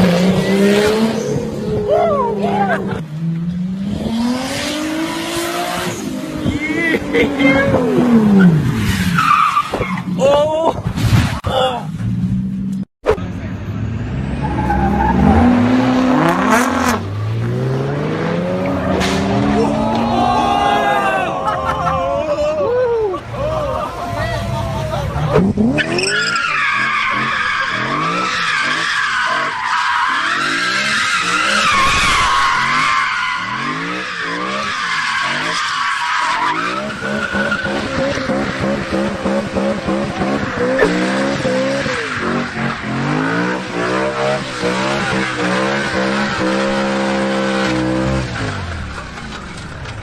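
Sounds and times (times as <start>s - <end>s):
car engine revving: 0.0s - 10.1s, 13.1s - 21.1s, 24.4s - 50.0s.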